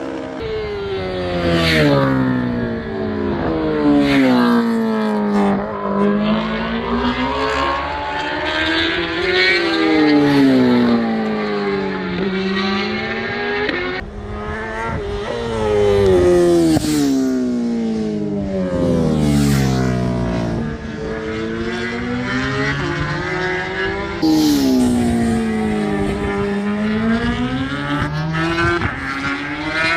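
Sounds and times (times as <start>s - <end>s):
racing motorcycles passing at full throttle: 0.0s - 29.9s.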